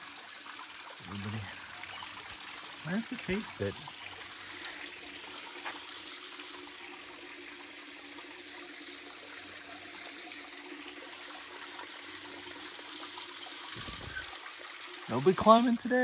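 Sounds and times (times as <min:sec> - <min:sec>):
water trickling over rock: 0:00.0 - 0:16.0.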